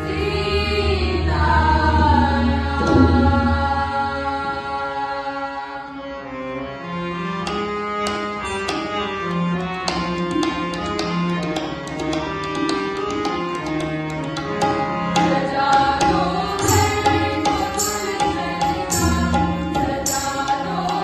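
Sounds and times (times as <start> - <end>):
tabla playing: 0.0 - 4.8, 7.4 - 21.0
harmonium sustained notes: 0.0 - 21.0.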